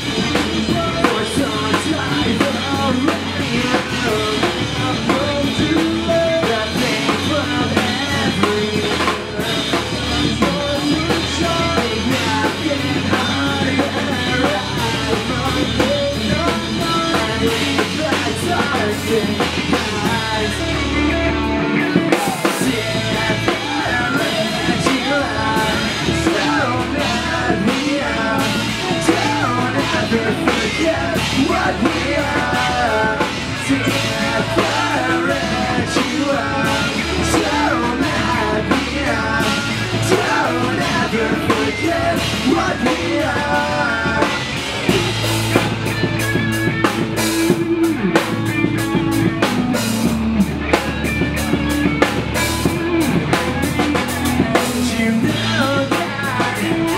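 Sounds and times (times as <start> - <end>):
fast drum beat: 0.0 - 56.9
live pop-punk band playing: 0.0 - 56.9
person singing: 0.0 - 56.9.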